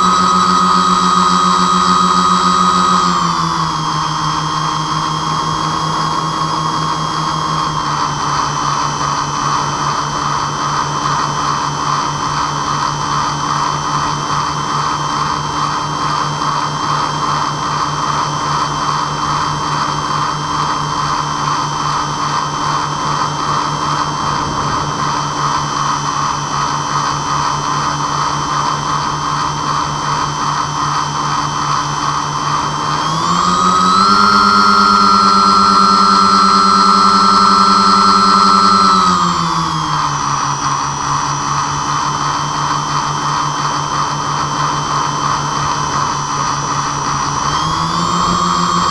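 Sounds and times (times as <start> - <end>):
model airplane propellers droning: 0.0 - 48.9.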